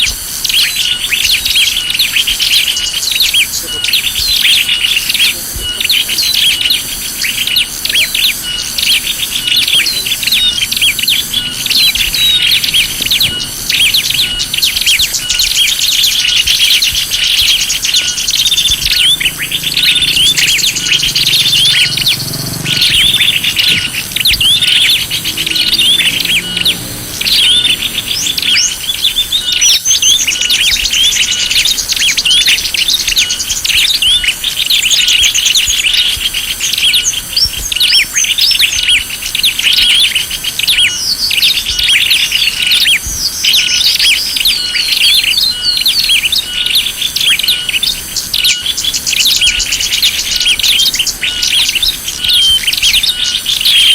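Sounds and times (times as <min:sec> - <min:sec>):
many small birds chirping: 0:00.0 - 0:53.9.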